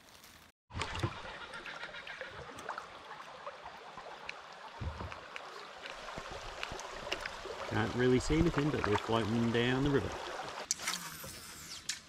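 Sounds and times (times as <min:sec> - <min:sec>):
river water running: 0:00.7 - 0:11.5.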